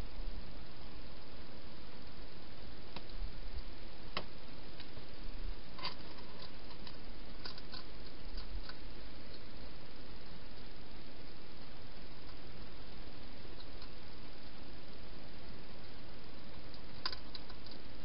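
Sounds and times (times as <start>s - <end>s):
microphone hiss: 0.0s - 18.0s
small irregular clicks: 2.0s - 5.0s, 5.7s - 15.1s, 15.8s - 18.0s.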